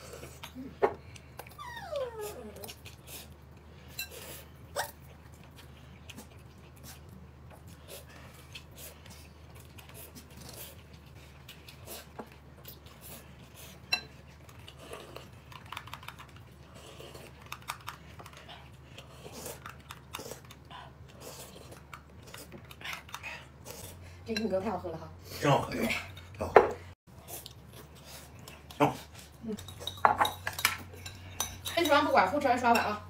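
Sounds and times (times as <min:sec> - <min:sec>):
chewing: 0:00.0 - 0:24.2, 0:27.1 - 0:31.8.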